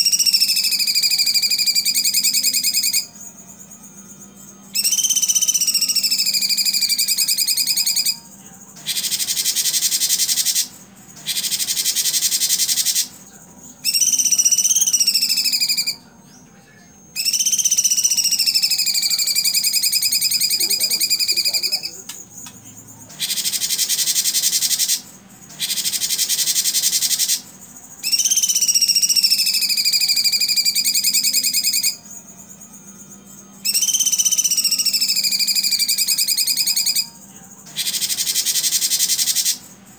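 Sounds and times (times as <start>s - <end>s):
bird singing: 0.0s - 39.8s.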